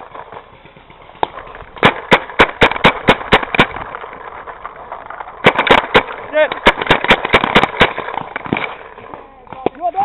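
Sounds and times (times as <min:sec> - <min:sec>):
paintball marker firing: 0:00.0 - 0:10.0.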